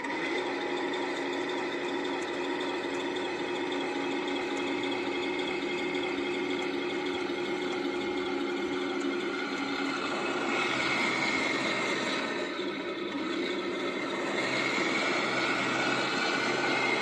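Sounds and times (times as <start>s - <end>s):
electric motors whining: 0.0s - 17.0s
plastic gearbox whining: 0.0s - 17.0s.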